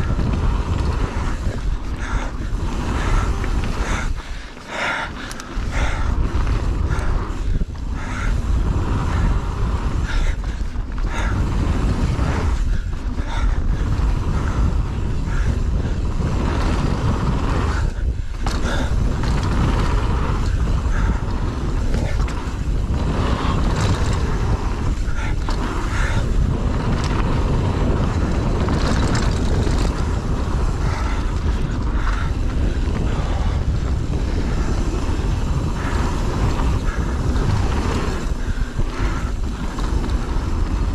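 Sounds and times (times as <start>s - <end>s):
bike rattling over roots and rocks: 0.0s - 40.9s
wind and tyre rumble: 0.0s - 40.9s.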